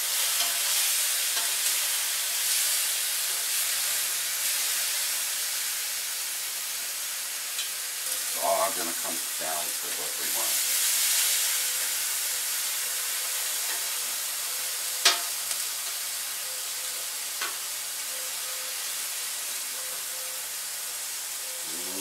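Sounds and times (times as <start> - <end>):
meat sizzling on a griddle: 0.0 - 22.0.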